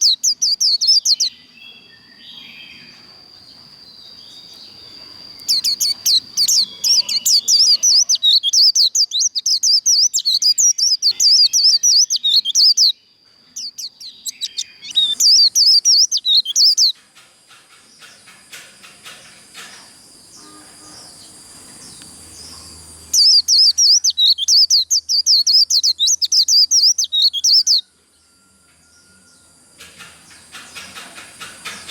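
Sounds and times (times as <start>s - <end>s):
bird twittering song: 0.0s - 31.9s.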